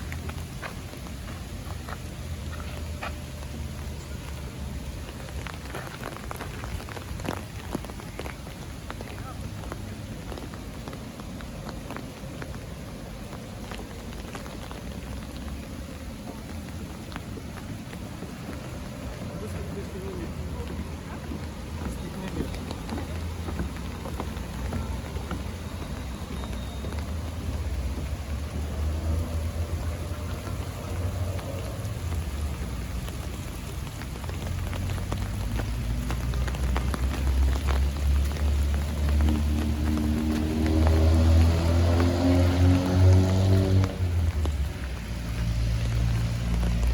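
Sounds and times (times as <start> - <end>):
light rain falling: 0.0 - 46.9.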